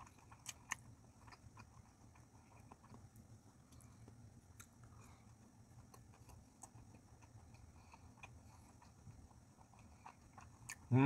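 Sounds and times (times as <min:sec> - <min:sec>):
soft chewing clicks: 0:00.0 - 0:11.0.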